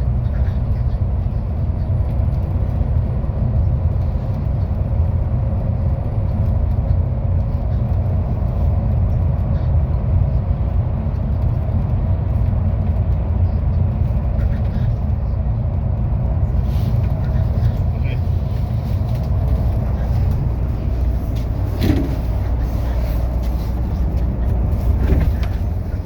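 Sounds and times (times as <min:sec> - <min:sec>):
bus engine rumble: 0:00.0 - 0:26.0
road noise: 0:00.0 - 0:26.0.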